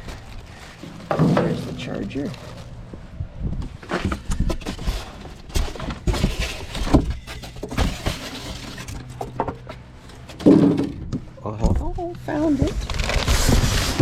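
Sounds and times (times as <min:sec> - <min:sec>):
hands rummaging through cardboard box: 0:00.0 - 0:03.0, 0:03.7 - 0:10.6, 0:12.4 - 0:14.0.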